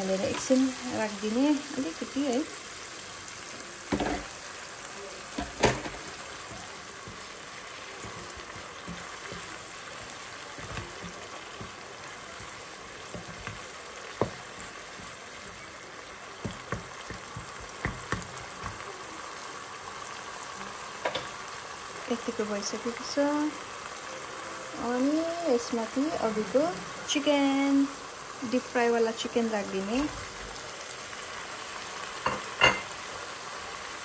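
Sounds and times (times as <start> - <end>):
masala sizzling in oil: 0.0 - 34.0.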